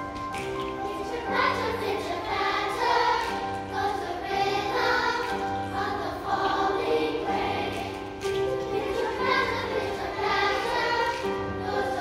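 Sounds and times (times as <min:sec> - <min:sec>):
children's choir singing: 0:00.0 - 0:12.0
piano: 0:00.0 - 0:12.0.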